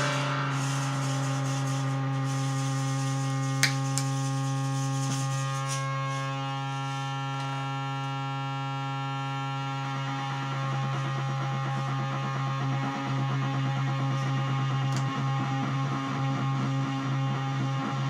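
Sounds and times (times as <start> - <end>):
electronic hum and drone: 0.0 - 18.0.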